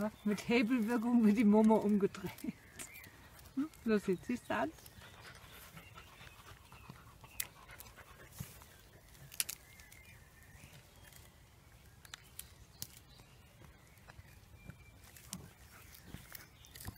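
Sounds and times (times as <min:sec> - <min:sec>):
puppies playing: 0:00.0 - 0:16.9.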